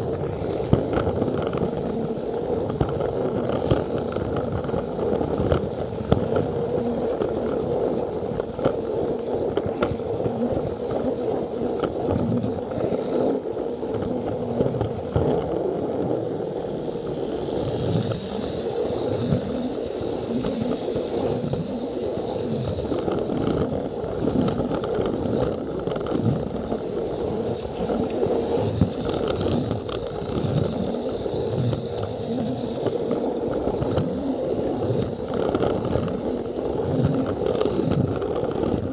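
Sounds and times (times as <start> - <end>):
high whine: 0.0 - 38.9
toy train motor and wheels rolling: 0.0 - 38.9.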